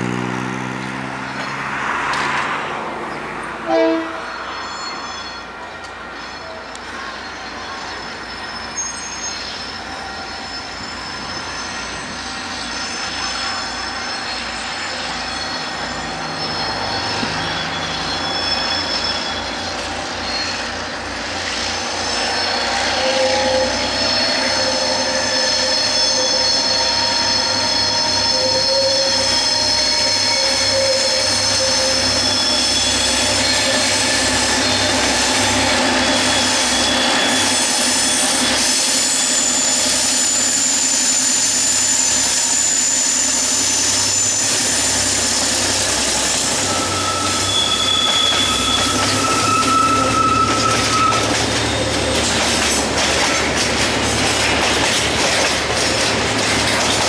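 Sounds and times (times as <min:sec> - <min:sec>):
train wheels squealing: 0:01.4 - 0:57.0.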